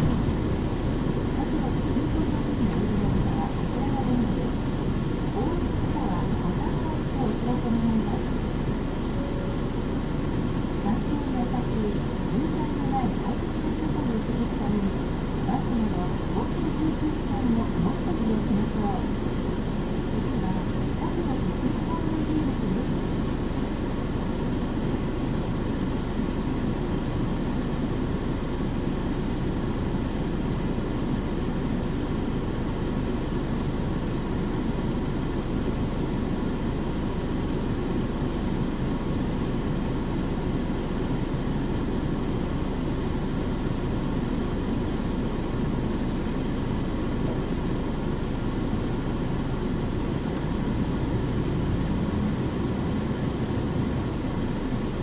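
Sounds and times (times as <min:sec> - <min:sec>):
diesel bus engine rumbling: 0:00.0 - 0:55.0.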